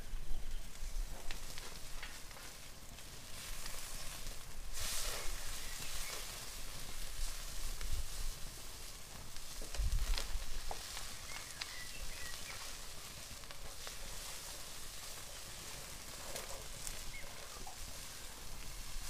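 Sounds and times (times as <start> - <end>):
campfire crackling: 0.0 - 19.0
meat sizzling on a grill: 0.0 - 19.0.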